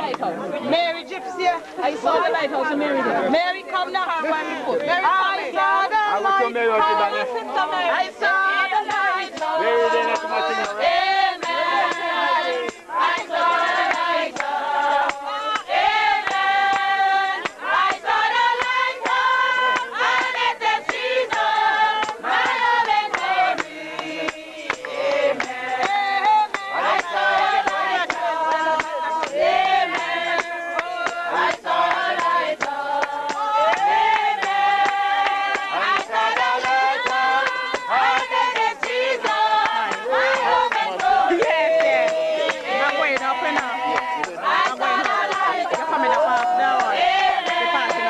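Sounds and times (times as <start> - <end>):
group singing: 0.0 - 48.0.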